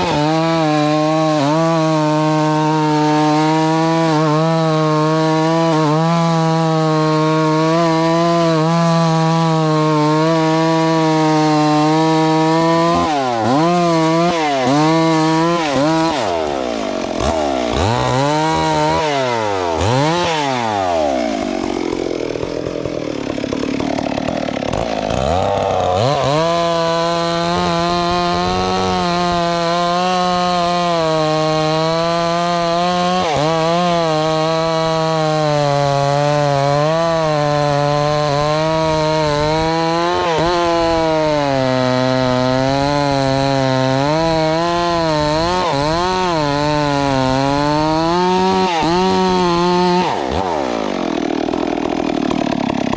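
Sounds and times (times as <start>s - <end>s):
chainsaw running at high speed: 0.0s - 52.9s.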